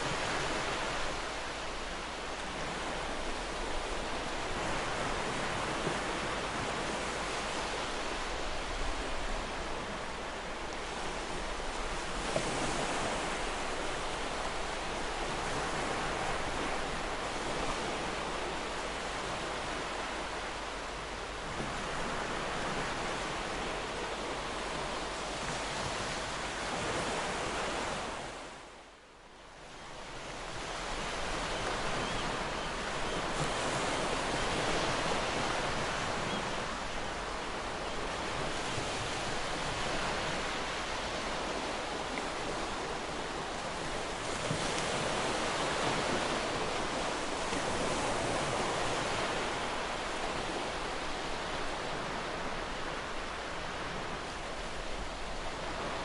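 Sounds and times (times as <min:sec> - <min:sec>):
ocean surf washing onto beach: 0:00.0 - 0:28.9, 0:29.5 - 0:56.0.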